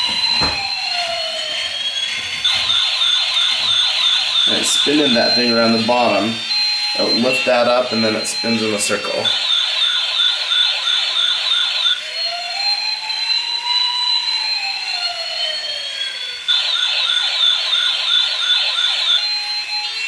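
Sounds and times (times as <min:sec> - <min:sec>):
toy fire truck siren: 0:00.0 - 0:20.0.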